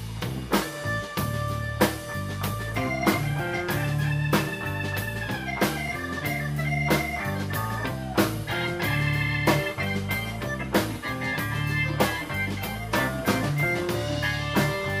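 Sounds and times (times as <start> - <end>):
blues band playing: 0.0 - 15.0
bending lead guitar notes: 0.5 - 15.0.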